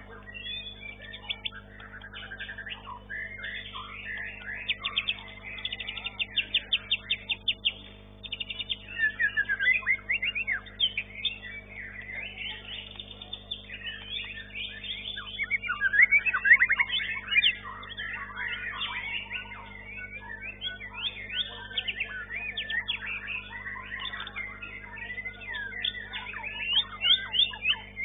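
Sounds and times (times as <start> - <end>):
songbird singing: 0.0 - 28.0.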